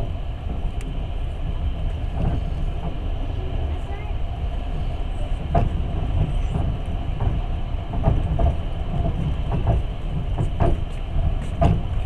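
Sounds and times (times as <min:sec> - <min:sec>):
train knocks and clatter: 0:00.0 - 0:12.0
train low rumble: 0:00.0 - 0:12.0.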